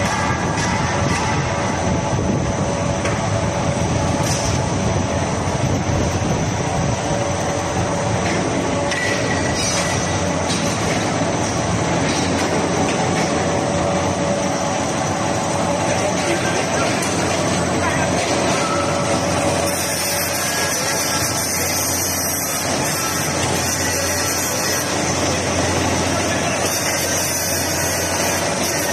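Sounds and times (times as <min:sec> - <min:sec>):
wire running over rollers: 0:00.0 - 0:28.9.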